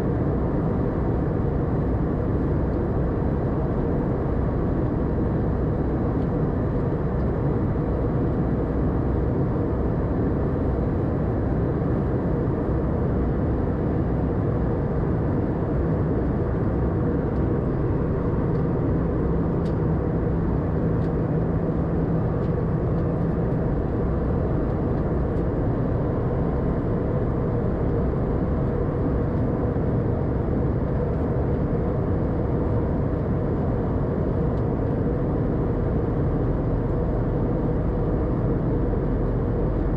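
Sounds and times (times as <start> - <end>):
airplane cabin airflow and engines: 0.0 - 39.9.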